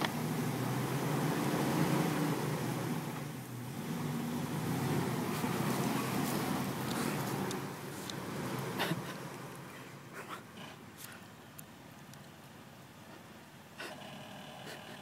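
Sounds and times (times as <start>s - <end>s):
car engine under light throttle: 0.0s - 13.2s.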